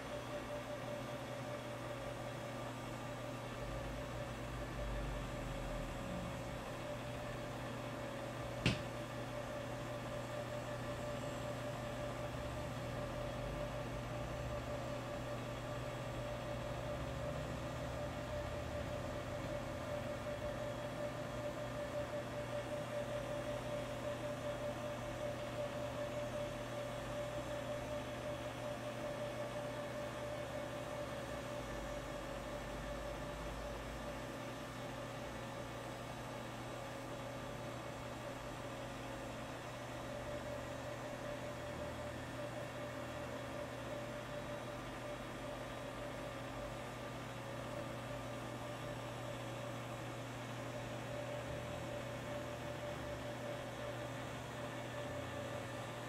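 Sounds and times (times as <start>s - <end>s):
background hum and hiss: 0.0s - 56.0s
faint steady whine: 0.0s - 56.0s.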